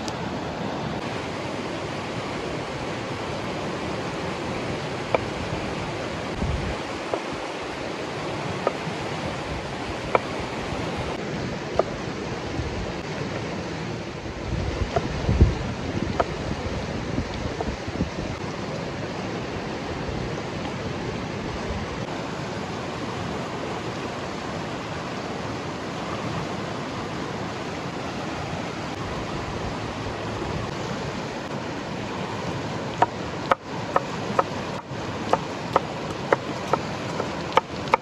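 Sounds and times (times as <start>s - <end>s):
river rushing: 0.0s - 38.0s.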